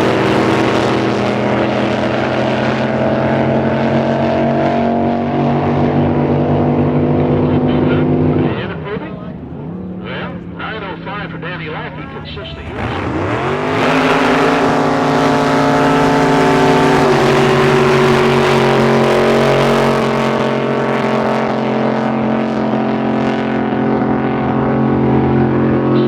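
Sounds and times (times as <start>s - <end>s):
racing boat engine running: 0.0s - 26.0s.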